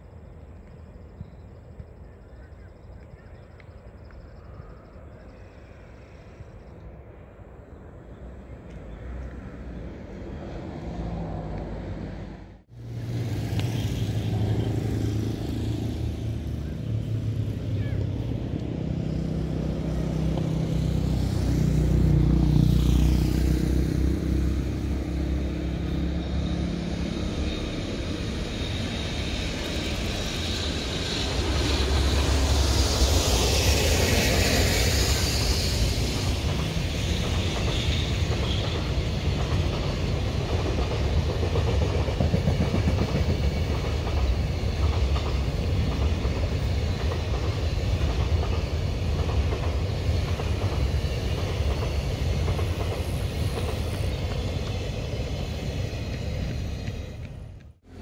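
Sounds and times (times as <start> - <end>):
freight train running: 0.0 - 58.0.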